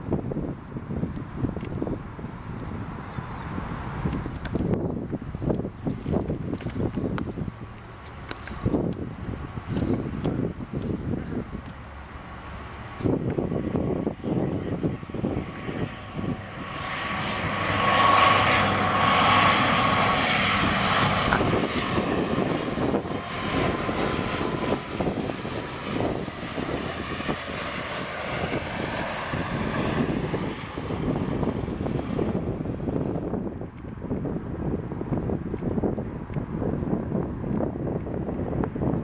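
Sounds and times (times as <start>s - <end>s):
turboprop plane droning: 0.0s - 39.0s.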